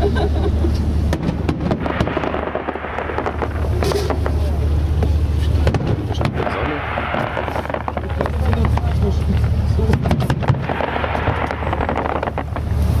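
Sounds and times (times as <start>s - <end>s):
low rumble: 0.0s - 13.0s
fireworks bangs and crackles: 1.0s - 13.0s.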